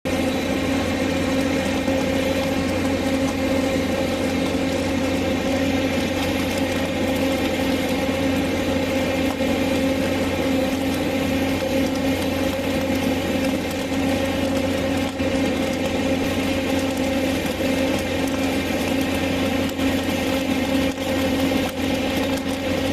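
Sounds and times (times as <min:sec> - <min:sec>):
welding machine drone and hiss: 0:00.1 - 0:22.9.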